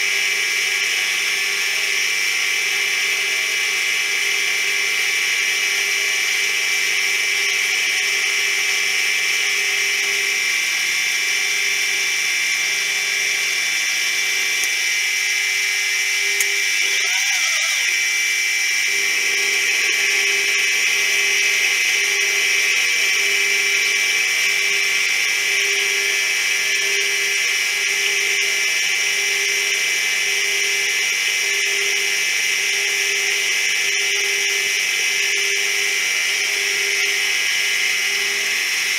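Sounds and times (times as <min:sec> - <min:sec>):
high-pitched machining whine: 0:00.0 - 0:38.9.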